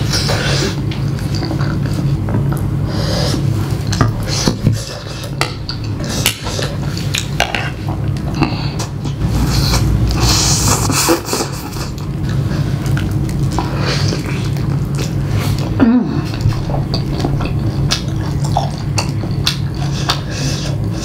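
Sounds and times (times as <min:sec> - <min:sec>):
chewing: 0:00.0 - 0:21.0
steady low hum: 0:00.0 - 0:21.0.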